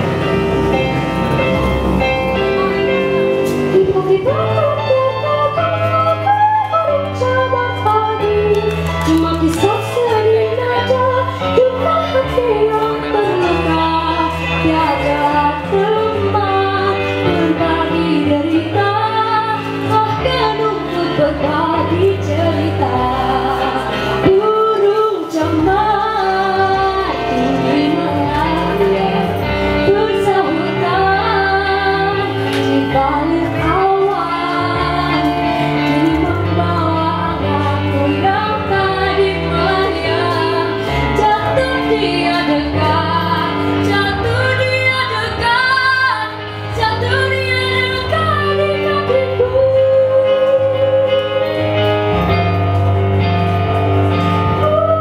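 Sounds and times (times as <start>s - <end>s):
instrumental accompaniment: 0.0s - 55.0s
girl singing pop ballad: 2.4s - 55.0s.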